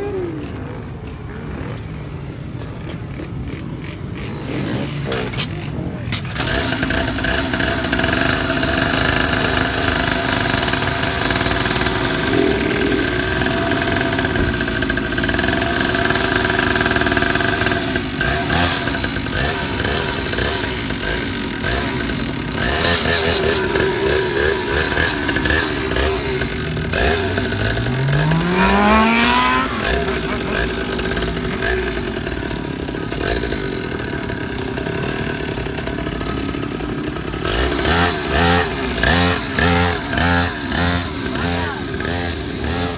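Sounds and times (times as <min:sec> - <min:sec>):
motorcycle engines droning: 0:00.0 - 0:42.9
motorcycle revving: 0:00.0 - 0:42.9.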